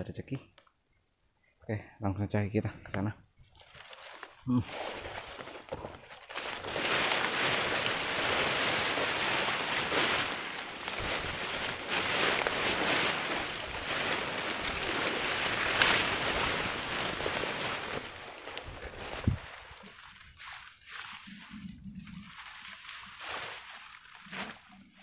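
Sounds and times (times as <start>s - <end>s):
undergrowth rustling underfoot: 3.3s - 25.0s.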